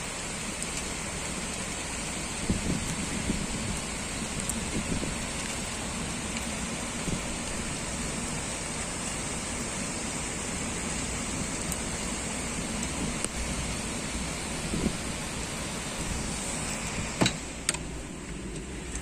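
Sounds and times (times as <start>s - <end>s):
heavy rain on surfaces: 0.0s - 19.0s.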